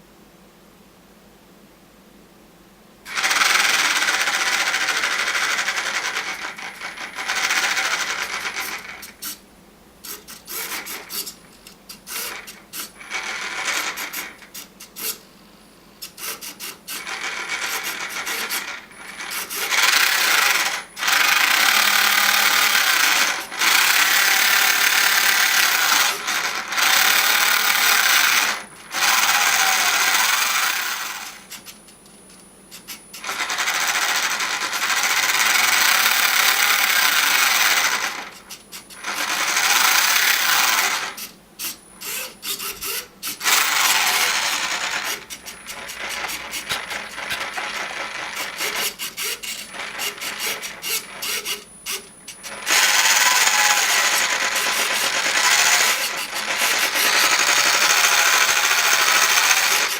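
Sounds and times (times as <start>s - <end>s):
toy car electric motor whirring: 3.1s - 9.4s, 10.0s - 15.2s, 16.0s - 31.8s, 32.7s - 59.9s.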